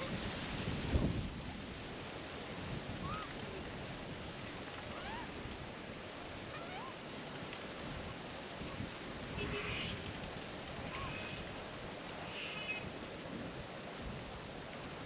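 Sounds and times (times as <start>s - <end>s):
wind-like rustling: 0.0s - 15.0s.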